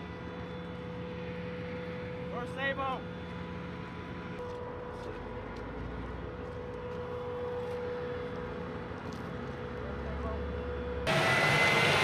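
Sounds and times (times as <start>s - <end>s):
vehicle engine whining: 0.0s - 12.0s.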